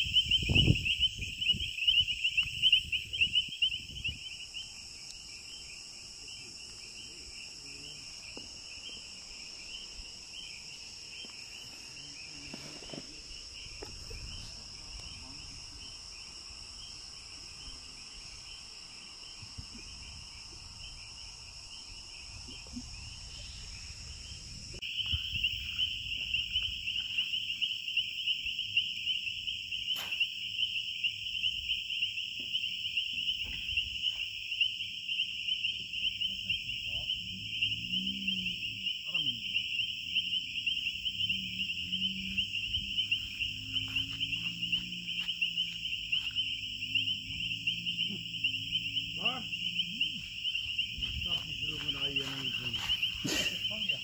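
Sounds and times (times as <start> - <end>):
crickets trilling: 0.0 - 54.0
high insect tones: 0.0 - 54.0.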